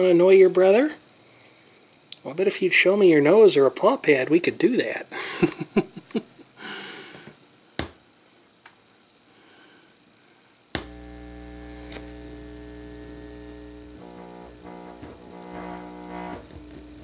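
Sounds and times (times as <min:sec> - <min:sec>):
speakers mains hum: 0:00.0 - 0:17.0.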